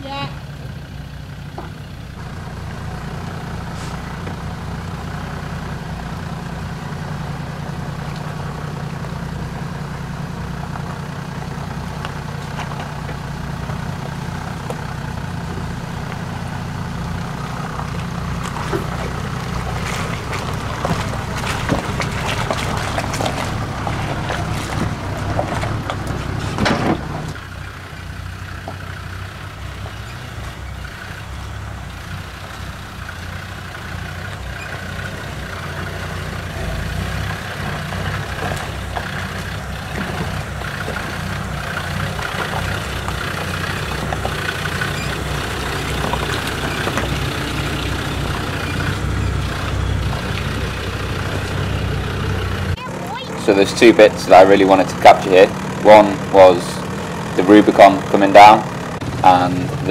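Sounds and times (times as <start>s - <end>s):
diesel engine running slowly: 0.0s - 59.9s
tyres crunching on loose stones: 3.3s - 59.9s.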